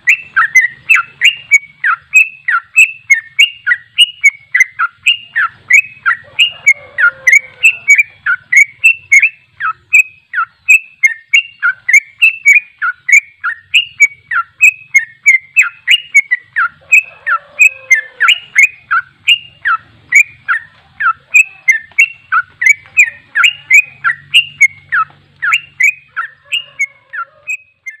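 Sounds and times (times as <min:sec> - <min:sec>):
bird singing whistled notes: 0:00.0 - 0:28.0.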